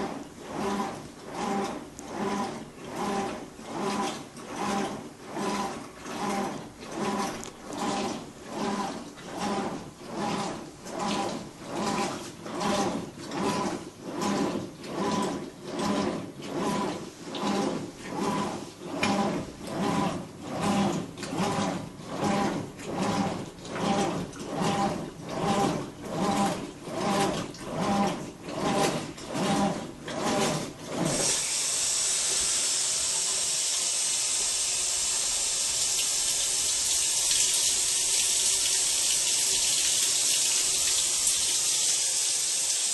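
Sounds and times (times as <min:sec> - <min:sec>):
washer motor humming in pulses: 0:00.0 - 0:42.9
water rushing into tub: 0:00.0 - 0:42.9.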